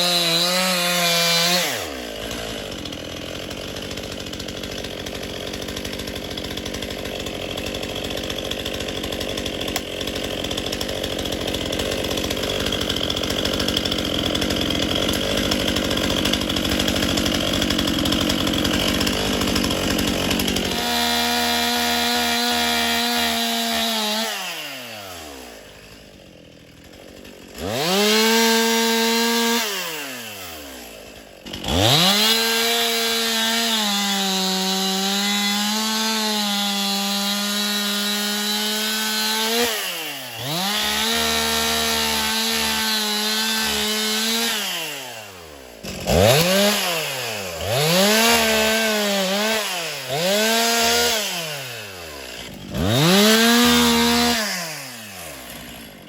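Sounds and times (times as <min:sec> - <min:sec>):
chainsaw cutting and revving: 0:00.0 - 0:56.0.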